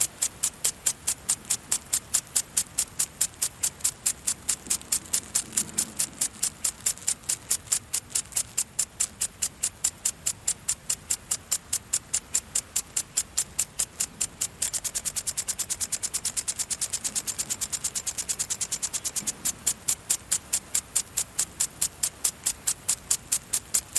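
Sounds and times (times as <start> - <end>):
impact sprinkler ticking spurts: 0.0 - 23.9.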